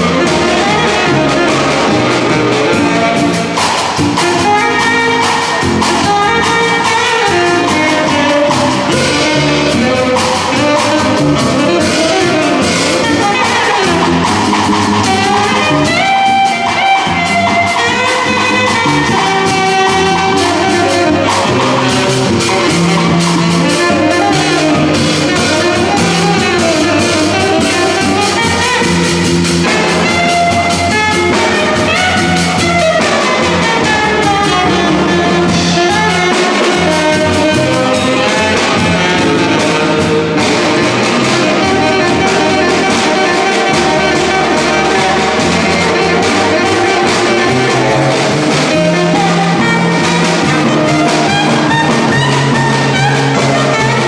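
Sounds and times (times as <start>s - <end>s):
drum kit: 0.0s - 54.0s
saxophone melody: 0.0s - 54.0s
walking upright bass: 0.0s - 54.0s.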